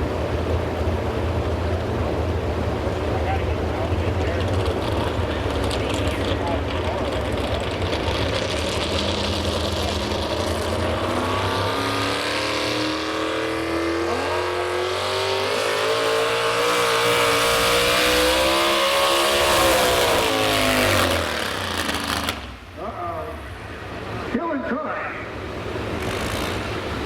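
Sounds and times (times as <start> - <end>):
truck engine running hard: 0.0 - 27.0.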